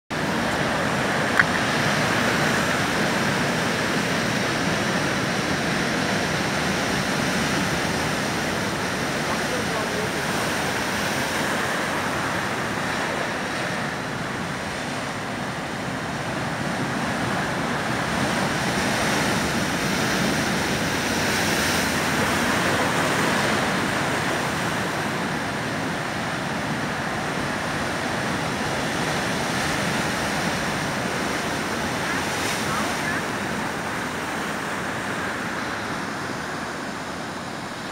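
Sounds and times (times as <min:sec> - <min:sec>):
ocean waves breaking: 0:00.1 - 0:37.9.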